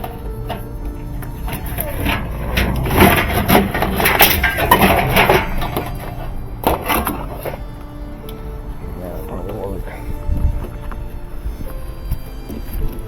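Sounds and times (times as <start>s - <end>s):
hard parts clattering and rubbing: 0.0s - 11.1s.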